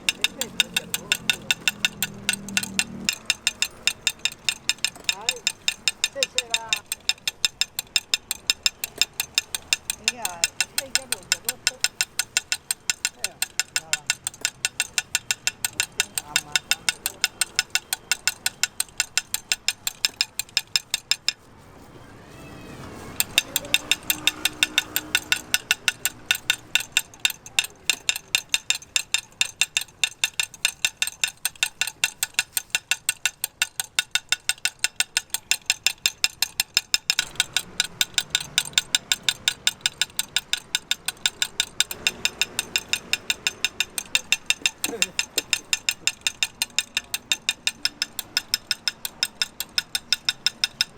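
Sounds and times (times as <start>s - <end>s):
sharp mechanical clicking: 0.0s - 21.5s, 22.8s - 50.9s.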